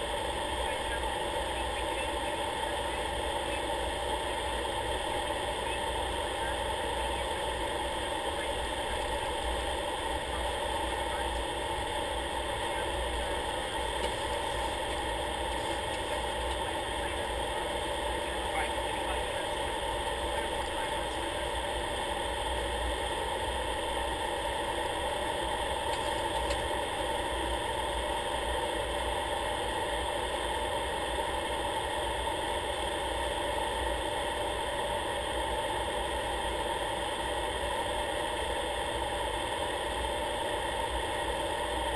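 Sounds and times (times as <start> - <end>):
aircraft engine drone: 0.0 - 41.9.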